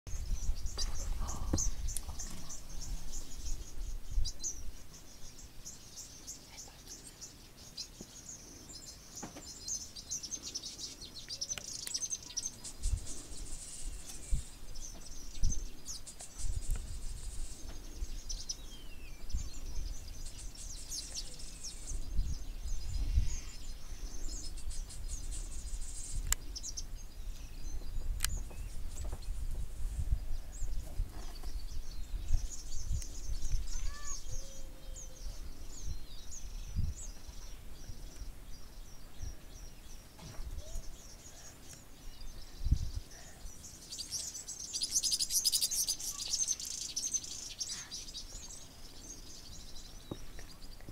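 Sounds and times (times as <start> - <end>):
small birds chirping and trilling: 0.1 - 50.9.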